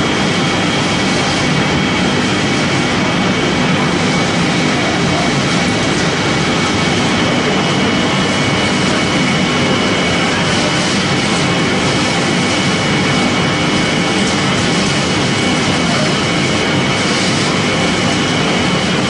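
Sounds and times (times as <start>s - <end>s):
pellet machine running: 0.0s - 19.0s.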